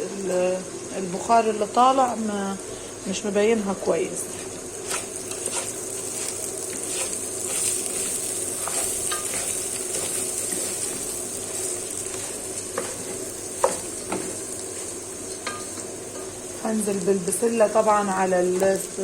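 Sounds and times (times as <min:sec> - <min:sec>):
tomato sauce sizzling in pot: 0:00.0 - 0:19.0.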